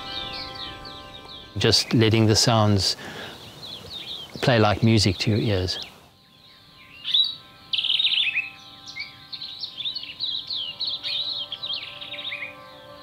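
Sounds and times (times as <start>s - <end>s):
birds chirping and singing: 0.0s - 13.0s
faint sustained music tones: 0.0s - 13.0s.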